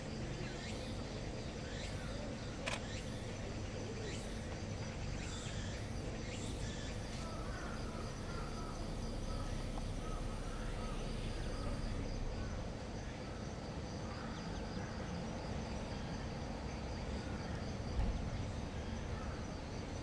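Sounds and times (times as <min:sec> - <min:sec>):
insects chirping: 0:00.0 - 0:20.0
low background rumble: 0:03.2 - 0:20.0.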